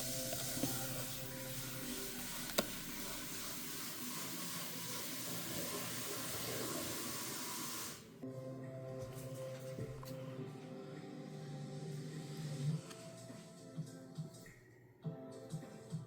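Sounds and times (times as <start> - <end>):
background music: 0.0 - 6.0, 7.8 - 16.0.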